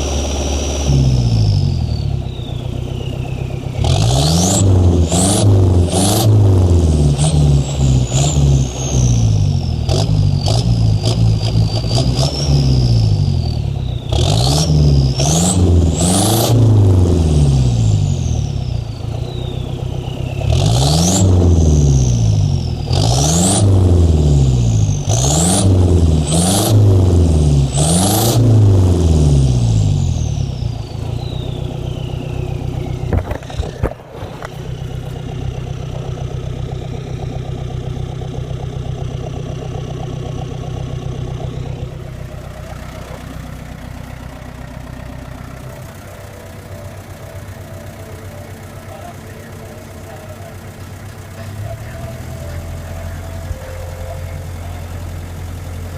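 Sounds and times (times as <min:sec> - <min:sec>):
turbo whistling whine: 0:00.0 - 0:06.5, 0:07.2 - 0:23.8, 0:30.2 - 0:38.1, 0:40.2 - 0:51.0, 0:51.6 - 0:55.9
diesel engine revving: 0:00.0 - 0:55.9.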